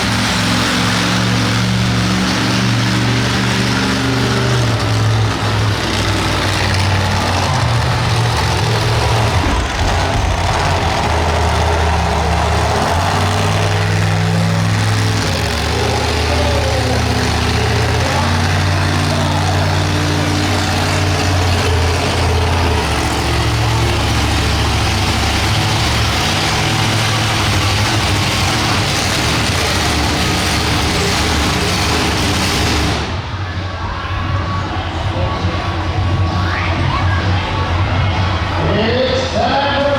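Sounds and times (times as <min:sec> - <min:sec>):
monster truck engine running: 0:00.0 - 0:39.9.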